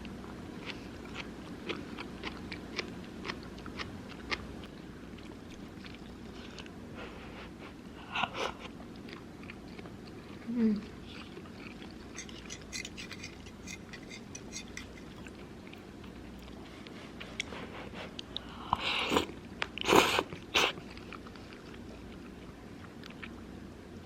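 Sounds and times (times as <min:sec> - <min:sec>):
person chewing food: 0:00.6 - 0:04.5, 0:05.1 - 0:07.3, 0:08.1 - 0:23.4.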